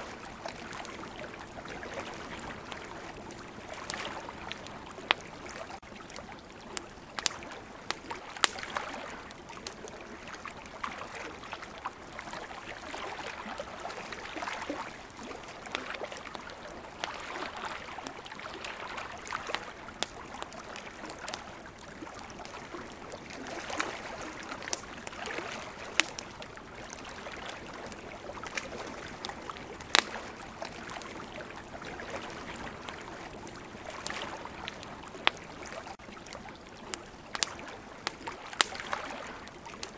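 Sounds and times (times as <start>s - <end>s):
campfire crackling and popping: 0.0s - 39.9s
ocean waves: 0.0s - 39.9s.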